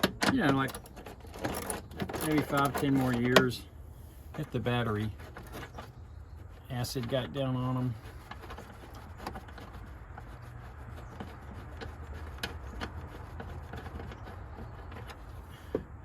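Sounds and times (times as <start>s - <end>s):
light clicks and scrapes of tools: 0.0s - 15.8s.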